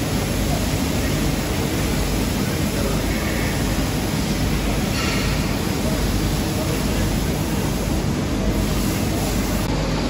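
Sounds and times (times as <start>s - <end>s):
workshop machinery running: 0.0s - 10.0s.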